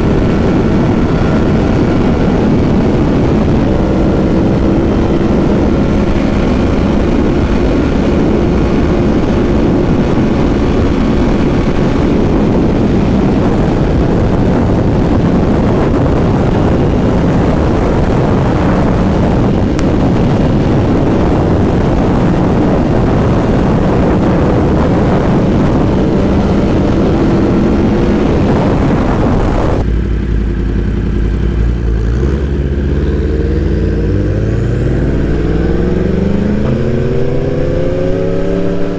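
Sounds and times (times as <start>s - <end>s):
motorcycle engine revving: 0.0s - 38.9s
rushing wind noise: 0.0s - 38.9s.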